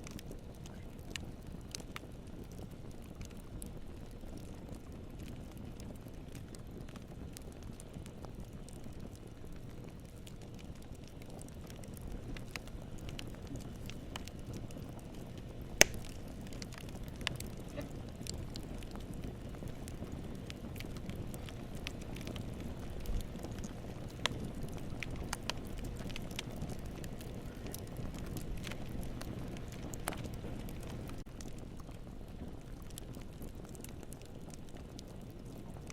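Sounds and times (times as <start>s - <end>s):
burning wood crackling and popping: 0.0s - 35.9s
low rumble of flames: 0.0s - 35.9s.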